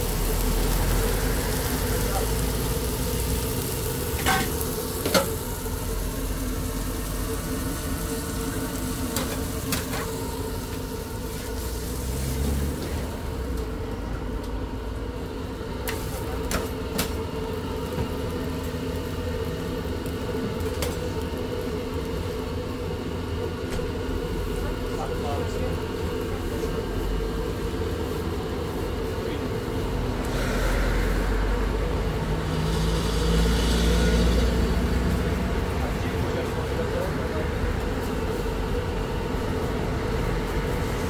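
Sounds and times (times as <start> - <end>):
food sizzling on hot surface: 0.0 - 13.8, 14.6 - 41.0
machine hum: 0.0 - 41.0.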